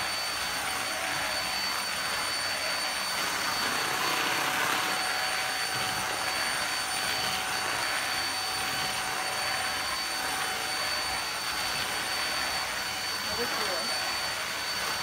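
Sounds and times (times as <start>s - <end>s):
handheld vacuum cleaner running: 0.0s - 15.0s.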